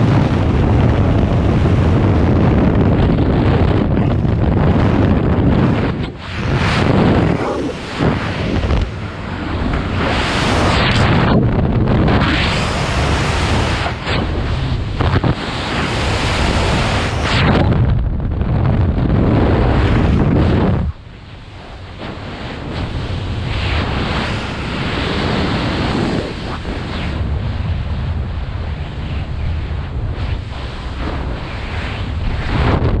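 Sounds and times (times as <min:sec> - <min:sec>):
wind roaring over microphone: 0:00.0 - 0:33.0.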